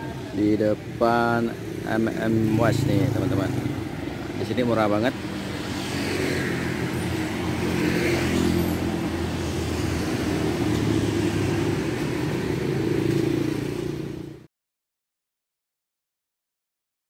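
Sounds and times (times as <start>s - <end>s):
street traffic: 0.0s - 14.5s.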